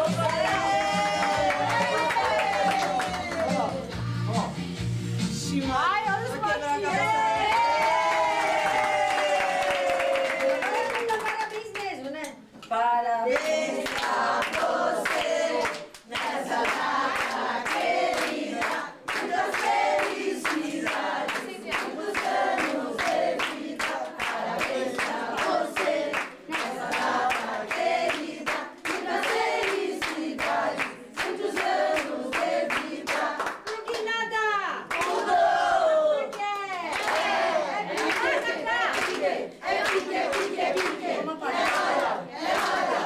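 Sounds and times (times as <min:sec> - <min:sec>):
group singing: 0:00.0 - 0:03.9, 0:06.4 - 0:09.5, 0:12.7 - 0:33.6, 0:34.9 - 0:36.3, 0:36.9 - 0:43.0
rhythmic hand clapping: 0:00.0 - 0:04.8, 0:06.1 - 0:12.3, 0:13.3 - 0:34.2, 0:34.9 - 0:35.6, 0:36.2 - 0:43.0.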